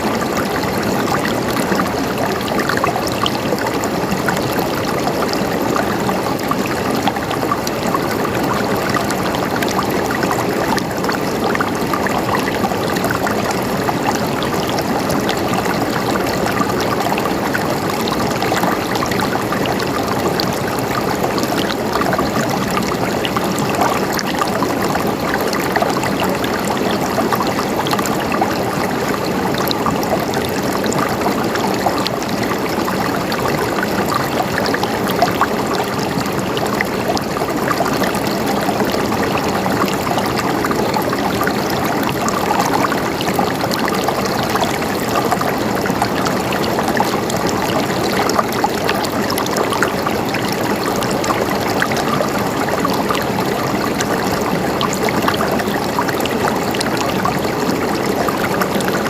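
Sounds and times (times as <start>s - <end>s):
running water gurgling: 0.0s - 59.0s.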